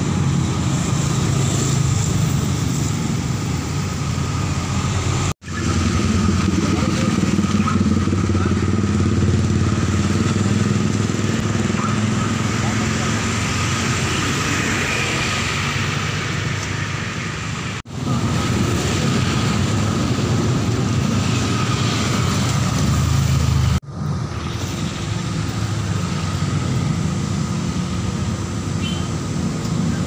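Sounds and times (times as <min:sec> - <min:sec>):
traffic engines and road noise: 0:00.0 - 0:30.0.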